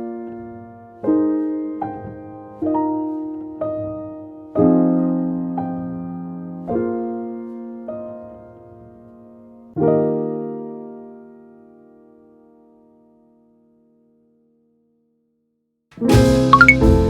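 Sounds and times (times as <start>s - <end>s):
soft slow piano music: 0.0s - 14.8s, 16.0s - 17.0s.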